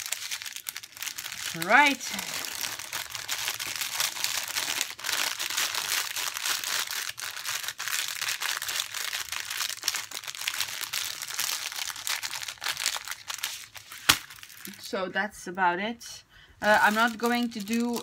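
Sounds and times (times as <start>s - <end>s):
plastic bags crinkling: 0.0s - 15.0s, 16.6s - 18.0s.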